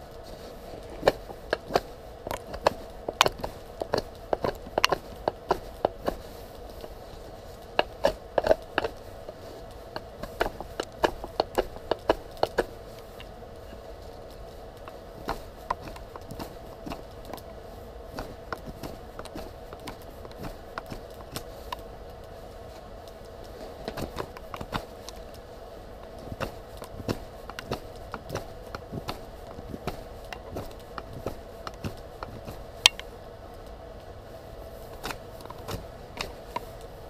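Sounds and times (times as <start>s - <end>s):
knife shaving wooden stick: 0.0s - 37.0s
steady hum: 0.0s - 37.0s.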